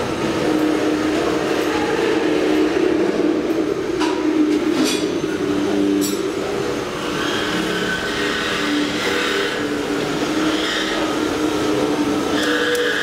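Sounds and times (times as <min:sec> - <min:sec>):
station hum and din: 0:00.0 - 0:13.0.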